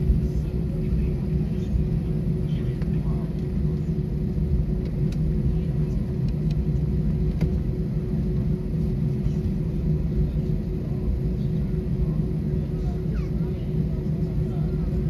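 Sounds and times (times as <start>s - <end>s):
airliner cabin rumble: 0.0s - 15.0s
constant hum: 0.0s - 15.0s.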